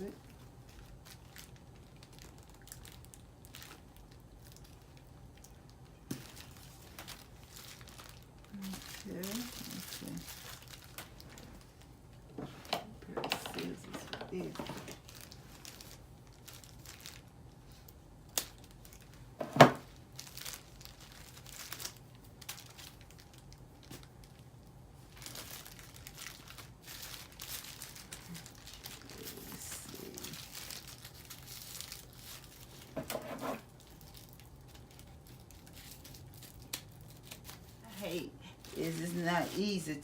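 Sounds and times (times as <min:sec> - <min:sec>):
packaging crinkling and tearing: 0:00.0 - 0:11.9, 0:13.2 - 0:40.0.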